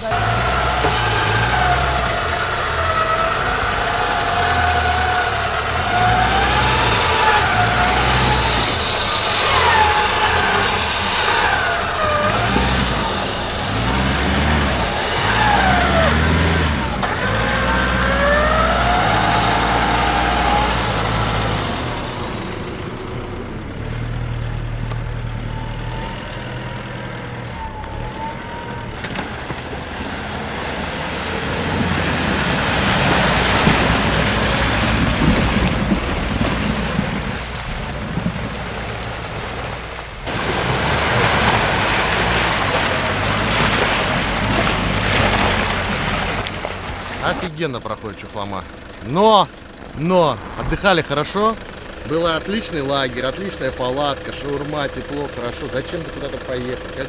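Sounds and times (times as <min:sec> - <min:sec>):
pickup engine running: 0:00.0 - 0:57.0
vehicle rushing over rough ground: 0:00.0 - 0:57.0.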